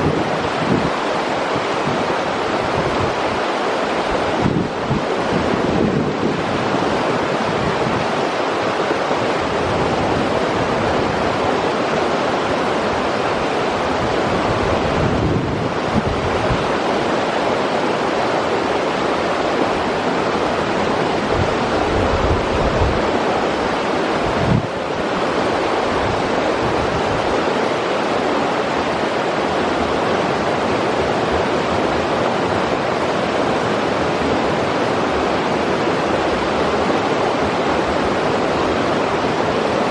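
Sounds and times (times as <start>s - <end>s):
wind buffeting microphone: 0.0s - 17.8s, 18.4s - 39.9s
river water rushing: 0.0s - 39.9s.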